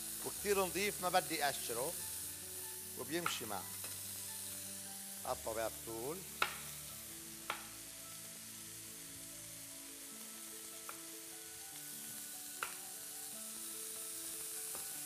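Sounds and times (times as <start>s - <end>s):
beef sizzling in a pan: 0.0s - 15.0s.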